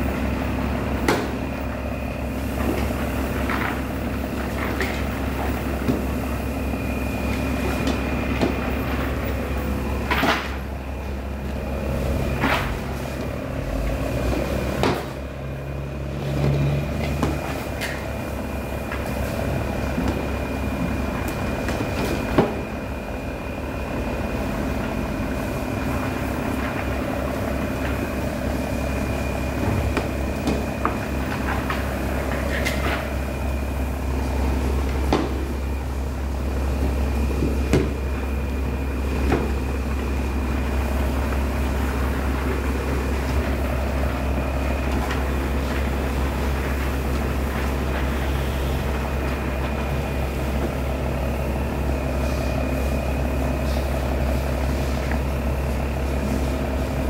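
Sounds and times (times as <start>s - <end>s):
engine rumbling with whine: 0.0s - 57.0s.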